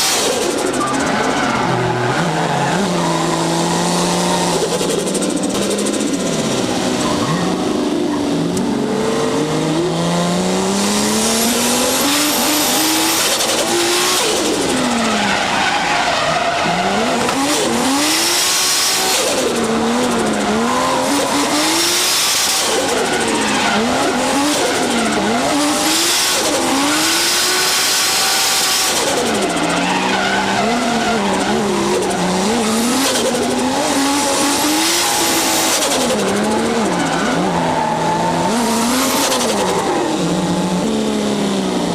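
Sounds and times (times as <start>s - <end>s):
tyres squealing and skidding: 0.0s - 8.5s, 11.5s - 41.1s
turbocharged engine revving: 0.0s - 41.9s.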